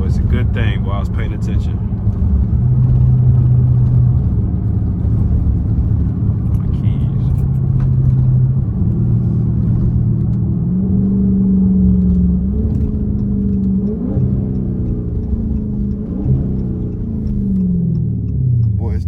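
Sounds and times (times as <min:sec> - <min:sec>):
loud car exhaust running: 0:00.0 - 0:19.0.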